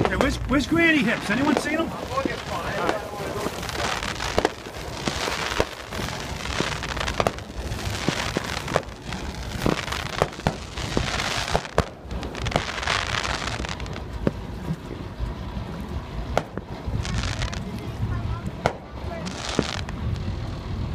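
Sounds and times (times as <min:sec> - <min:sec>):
fireworks popping and cracking: 0:00.0 - 0:20.9
steady hiss: 0:00.0 - 0:20.9.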